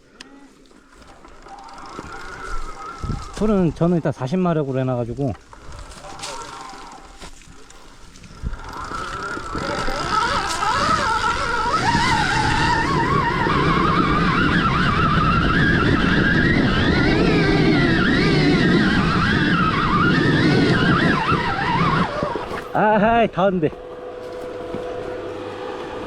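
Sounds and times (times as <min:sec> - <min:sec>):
electric motor whining: 0:00.8 - 0:04.1, 0:05.3 - 0:26.0
tyres rumbling on rough ground: 0:00.8 - 0:26.0.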